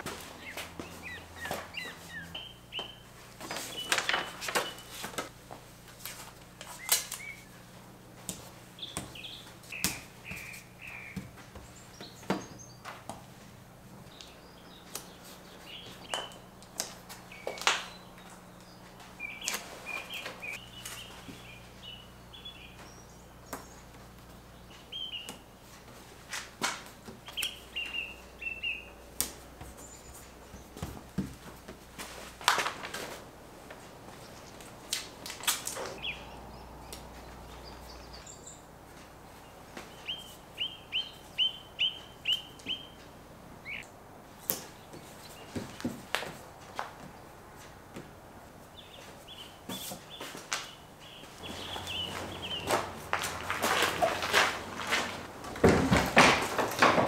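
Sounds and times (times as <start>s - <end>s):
small birds chirping: 0.0s - 5.3s, 6.6s - 13.3s, 13.9s - 25.8s, 26.9s - 31.1s, 33.8s - 47.4s, 48.6s - 54.8s
faint low hum: 0.0s - 56.5s.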